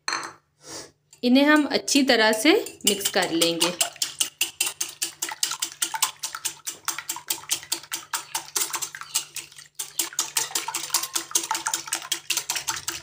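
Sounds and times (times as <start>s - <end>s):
whisk beating eggs in glass bowl: 2.3s - 13.0s.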